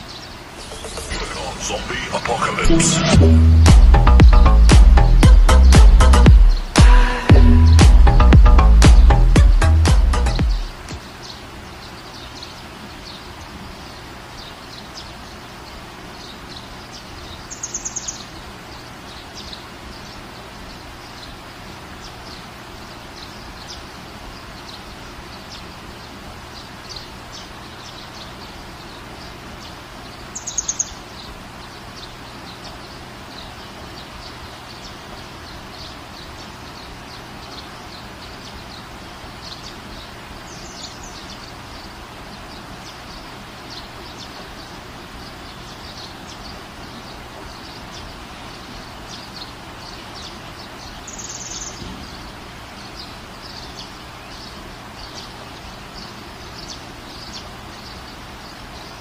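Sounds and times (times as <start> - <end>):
outdoor background hiss: 0.0 - 59.0
small birds chirping: 0.0 - 59.0.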